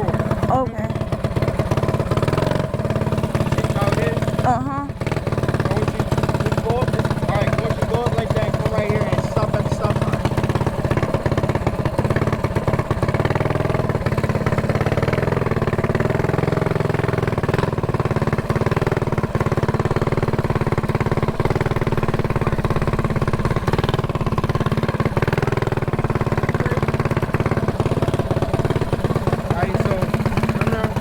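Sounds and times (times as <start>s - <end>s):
mini bike engine running: 0.0s - 31.0s.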